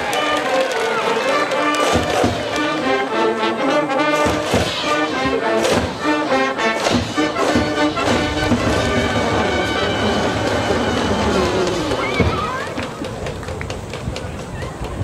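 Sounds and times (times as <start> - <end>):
brass band playing: 0.0 - 12.9.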